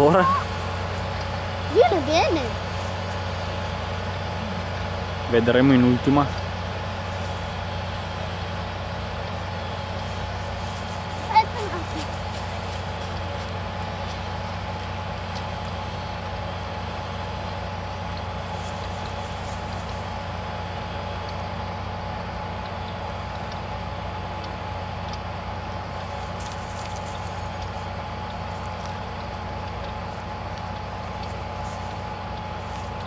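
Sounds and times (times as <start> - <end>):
tractor diesel engine droning: 0.0 - 33.0.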